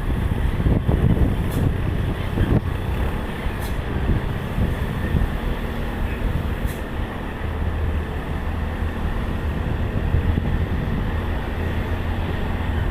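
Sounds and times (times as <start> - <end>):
truck engine rumble: 0.0 - 12.9.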